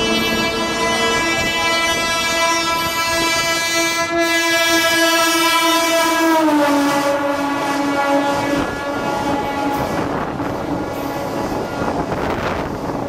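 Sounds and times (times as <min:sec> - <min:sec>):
train horn blast: 0:00.0 - 0:12.9.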